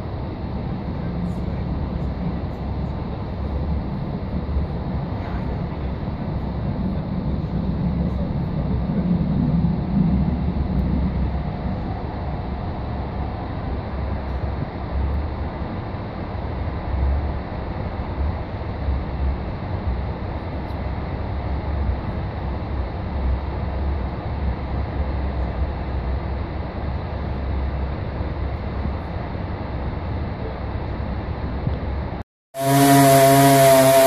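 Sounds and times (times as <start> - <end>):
train running noise inside carriage: 0.0 - 34.0.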